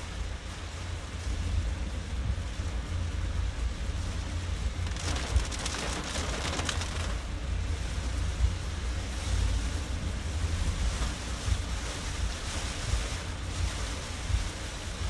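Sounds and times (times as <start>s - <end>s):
rain and spray hissing on car: 0.0s - 15.0s
road and wind noise in car: 0.0s - 15.0s.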